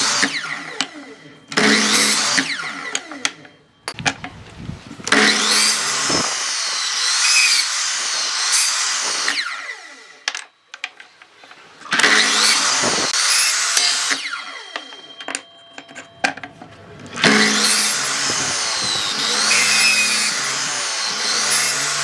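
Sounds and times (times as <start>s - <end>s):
power tool working wood: 0.0s - 10.3s, 11.1s - 22.0s.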